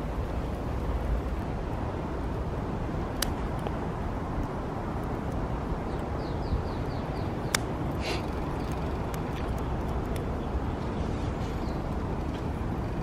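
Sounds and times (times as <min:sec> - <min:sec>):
sharp fire crackle: 0:00.0 - 0:13.0
wood fire burning: 0:00.0 - 0:13.0.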